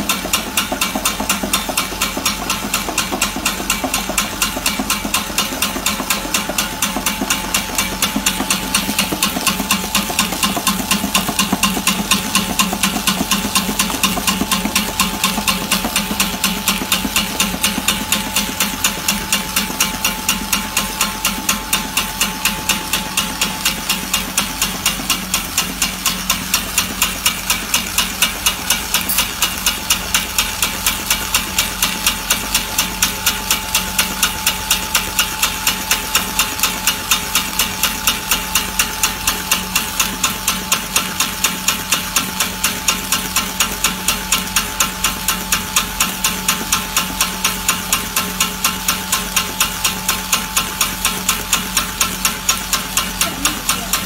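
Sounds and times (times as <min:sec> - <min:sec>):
motor hum: 0:00.0 - 0:54.0
rapid regular ticking: 0:00.0 - 0:54.0.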